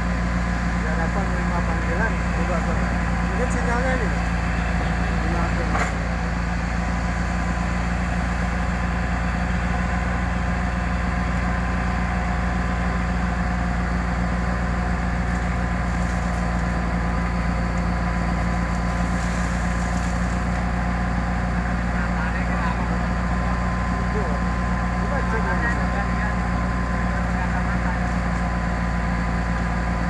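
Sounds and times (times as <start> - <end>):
excavator diesel engine idling: 0.0 - 30.0.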